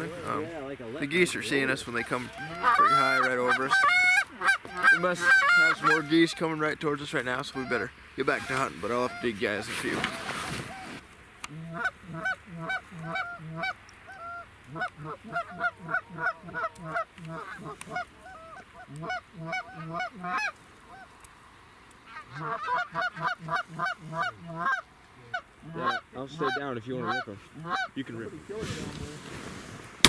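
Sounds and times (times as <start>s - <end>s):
geese honking: 0.0s - 21.3s, 22.0s - 28.2s.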